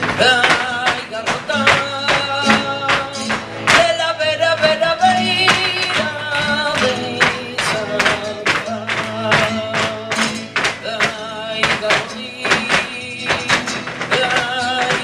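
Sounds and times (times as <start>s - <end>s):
flamenco guitar: 0.0s - 15.0s
person singing flamenco: 0.0s - 15.0s.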